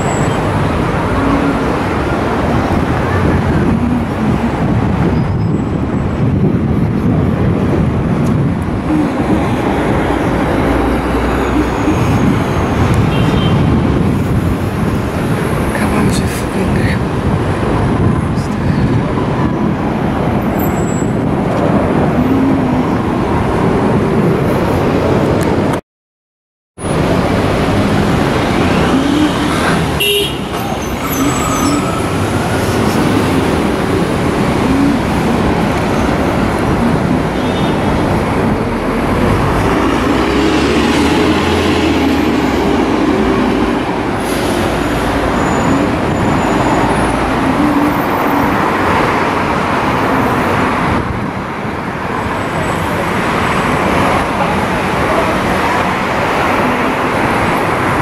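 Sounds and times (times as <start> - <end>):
street traffic passing: 0.0 - 25.8, 26.8 - 58.0
voices of passers-by: 0.0 - 25.8, 26.8 - 58.0.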